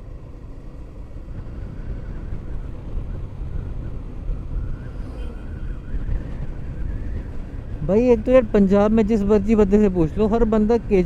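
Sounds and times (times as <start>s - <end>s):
faint wavering whine: 0.0s - 10.2s
motorcycle engine: 0.0s - 11.0s
road noise: 0.0s - 11.0s
wind on helmet microphone: 1.1s - 11.0s.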